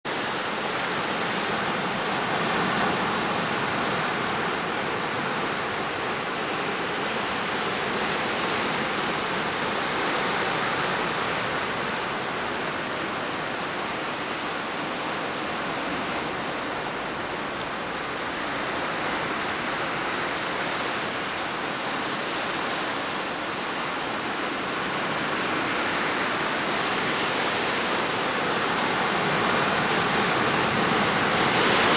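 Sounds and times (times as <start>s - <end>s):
sea surf rushing: 0.1s - 31.9s.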